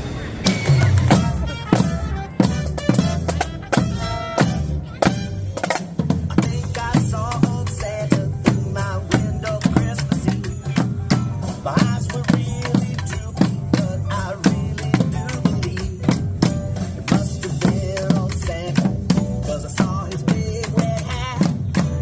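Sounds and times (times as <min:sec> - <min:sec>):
music with drum beat and melody: 0:00.1 - 0:22.0.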